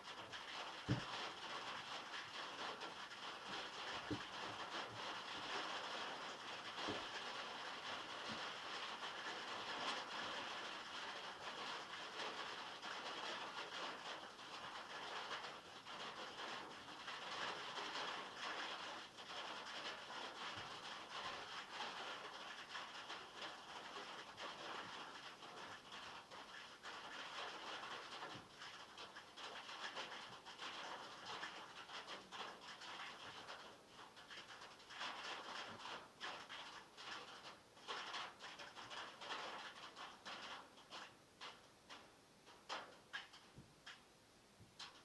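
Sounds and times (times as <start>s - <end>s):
heavy rain on metal roof: 0.0s - 45.0s.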